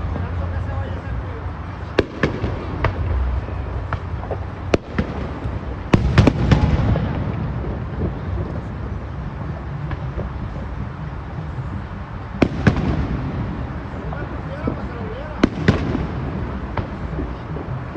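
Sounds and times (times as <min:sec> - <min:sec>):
fireworks bangs and cracks: 0:00.0 - 0:17.9
low rumbling tail: 0:00.0 - 0:17.9.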